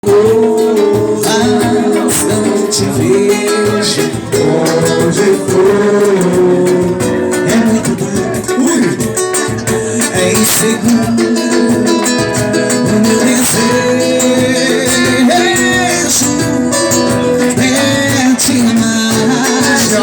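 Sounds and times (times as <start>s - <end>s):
guitar accompaniment: 0.0s - 20.0s
live band music: 0.0s - 20.0s.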